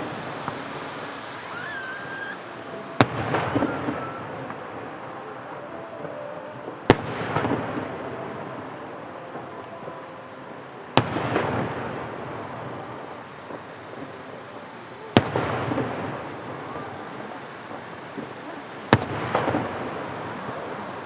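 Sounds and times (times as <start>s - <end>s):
firework booms: 0.0s - 21.0s.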